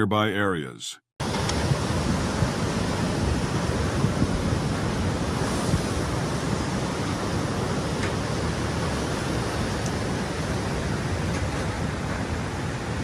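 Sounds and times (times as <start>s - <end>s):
waves surging and breaking: 1.2s - 13.0s
wind rumbling on microphone: 1.2s - 13.0s.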